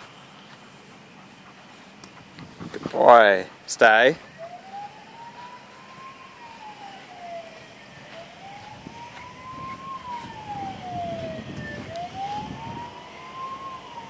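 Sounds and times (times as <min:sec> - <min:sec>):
siren wailing: 0:02.7 - 0:14.0.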